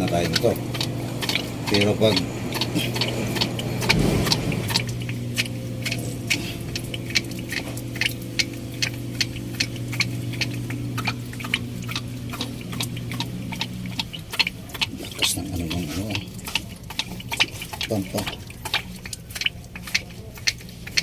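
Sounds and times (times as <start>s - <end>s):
machine humming: 0.0s - 21.0s
sharp ticks: 0.0s - 21.0s.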